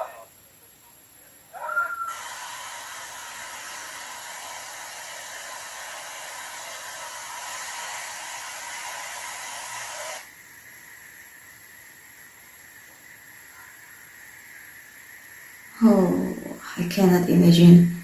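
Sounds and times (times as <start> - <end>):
steady hissing noise: 0.0 - 18.0.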